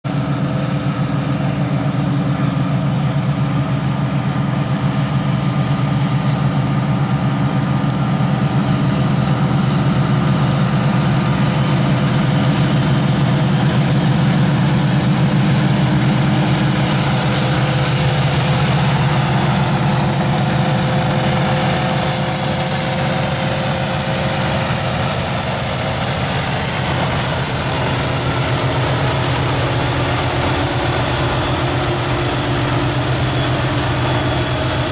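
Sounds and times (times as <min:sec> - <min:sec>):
locomotive engine rumble: 0:00.1 - 0:34.9.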